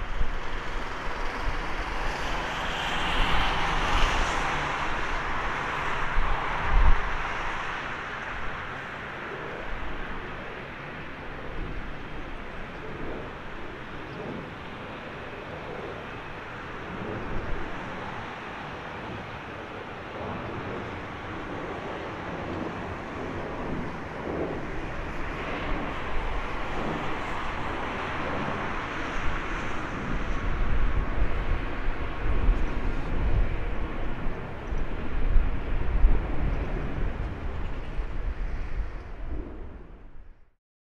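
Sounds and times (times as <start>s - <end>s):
jet engines at taxi power: 0.0s - 40.5s.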